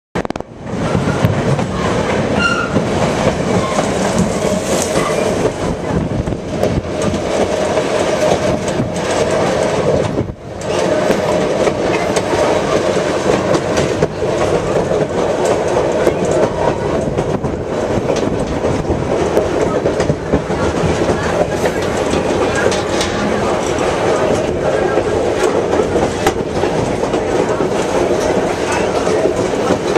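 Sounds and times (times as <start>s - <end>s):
train rail noise: 0.2s - 29.9s.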